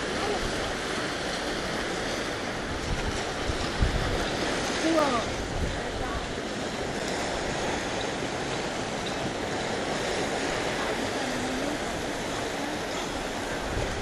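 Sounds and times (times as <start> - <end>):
sea waves on rocky shore: 0.0 - 14.0
wind: 0.0 - 14.0.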